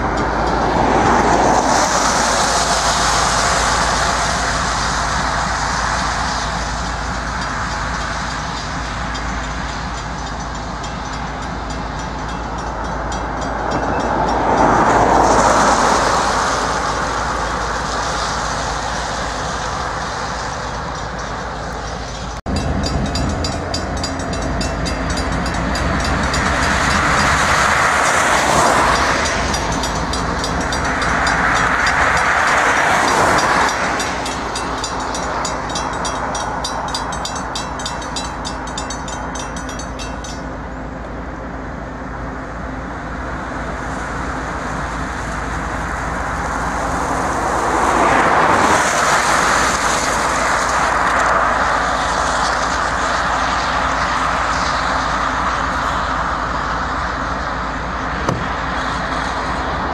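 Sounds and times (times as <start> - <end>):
diesel locomotives droning: 0.0 - 59.9.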